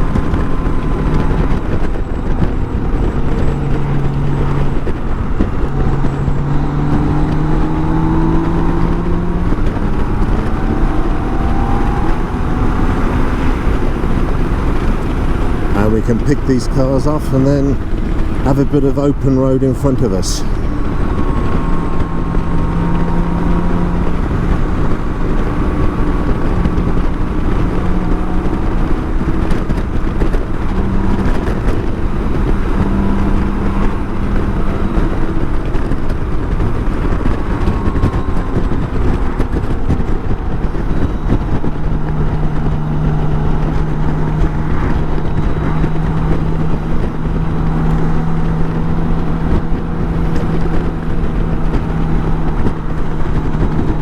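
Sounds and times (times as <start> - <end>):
motorcycle engine pulling: 0.0 - 54.0
wind noise on microphone: 0.0 - 54.0.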